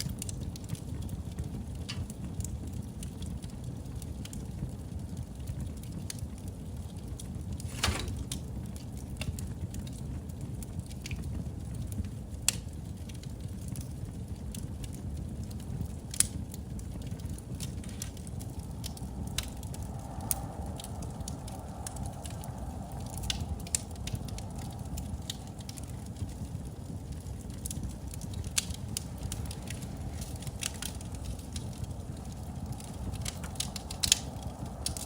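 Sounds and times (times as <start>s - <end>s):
fire low rumble: 0.0s - 35.0s
wood fire crackling and popping: 0.0s - 35.0s.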